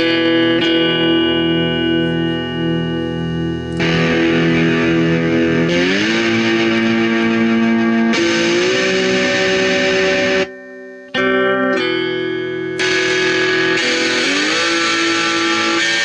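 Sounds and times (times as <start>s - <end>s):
electric guitar chord with wobble: 0.0s - 16.0s.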